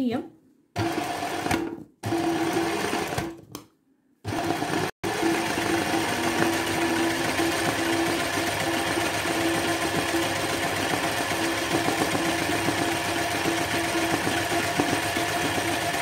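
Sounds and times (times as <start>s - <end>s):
sewing machine motor hum: 0.8s - 3.4s, 4.3s - 16.0s.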